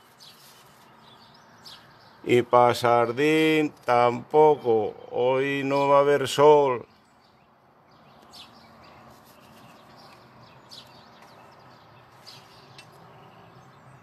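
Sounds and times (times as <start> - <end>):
faint steady outdoor hum: 0.0 - 14.0
songbirds chirping: 0.0 - 14.0.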